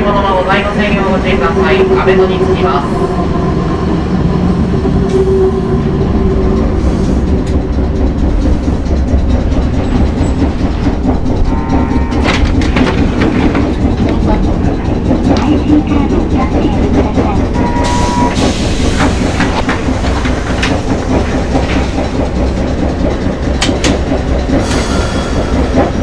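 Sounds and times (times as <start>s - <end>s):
tram motor hum: 0.0s - 26.0s
wheels rumbling on rail: 0.0s - 26.0s.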